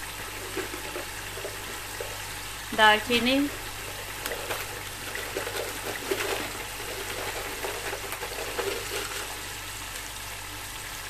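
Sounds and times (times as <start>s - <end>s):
curry sizzling and bubbling: 0.0s - 11.0s
low steady hum: 0.0s - 11.0s.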